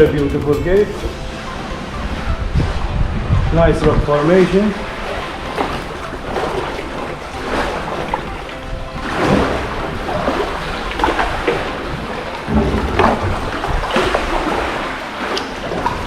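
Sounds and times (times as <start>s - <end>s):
sharp water splashes: 0.0s - 16.0s
sea water sloshing around kayak: 0.8s - 16.0s.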